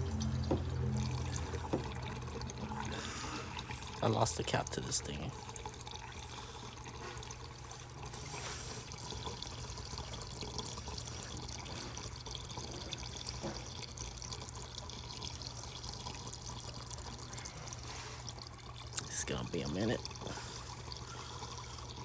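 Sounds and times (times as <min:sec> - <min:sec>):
water pouring into reservoir: 0:00.0 - 0:22.0.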